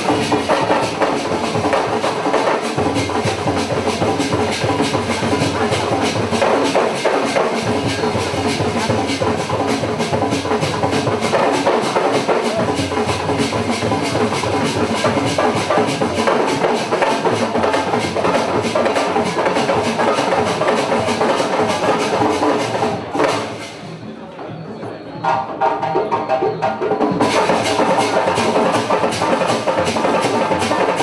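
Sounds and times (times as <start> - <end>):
music with fast drum beat: 0.0 - 31.0.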